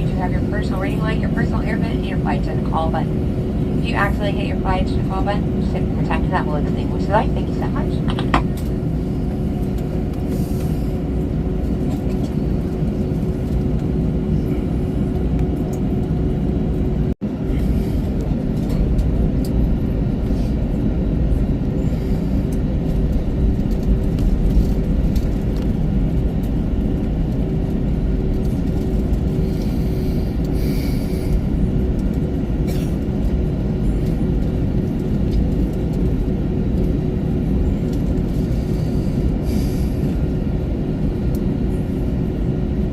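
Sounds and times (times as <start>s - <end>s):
aircraft cabin low rumble: 0.0s - 42.9s
constant hum: 0.0s - 42.9s.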